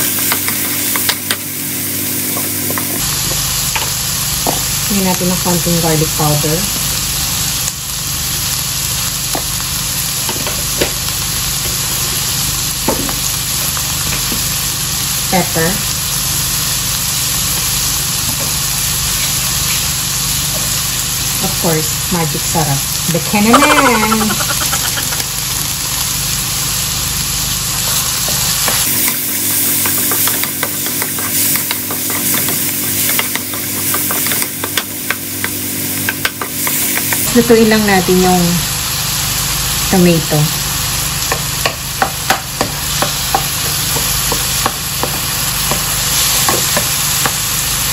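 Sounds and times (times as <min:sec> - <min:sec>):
vegetables sizzling in hot oil: 0:00.0 - 0:47.9.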